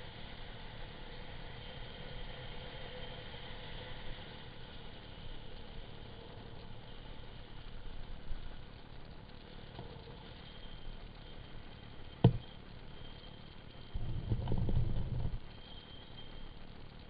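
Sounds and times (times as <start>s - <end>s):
bike tyres rolling on asphalt: 0.0s - 17.0s.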